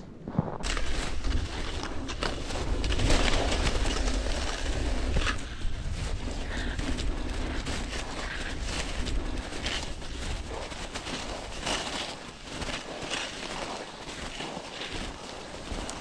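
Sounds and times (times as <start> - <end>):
wind rumbling on microphone: 0.0 - 16.0
rustle of movement in snow: 0.3 - 16.0.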